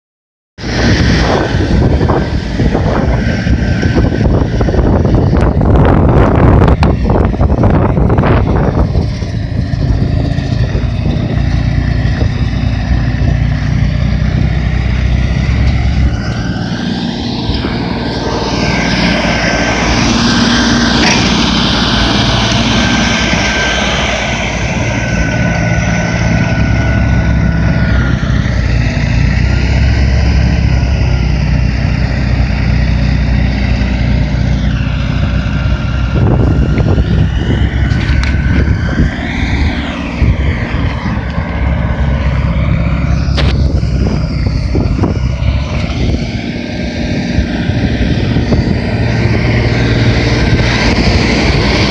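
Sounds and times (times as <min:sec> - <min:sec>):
thin whine: 0:00.6 - 0:51.9
tractor diesel engine running: 0:00.6 - 0:51.9.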